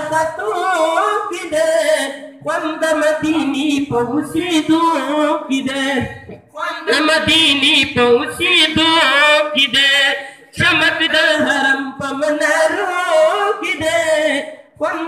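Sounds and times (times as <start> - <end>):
voices singing unaccompanied: 0.0 - 15.0.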